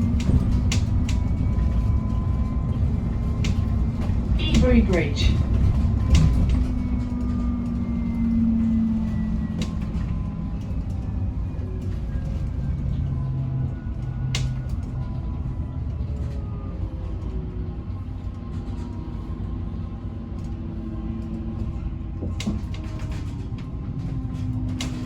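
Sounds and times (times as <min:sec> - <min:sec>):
bus engine rumble and whine: 0:00.0 - 0:25.0.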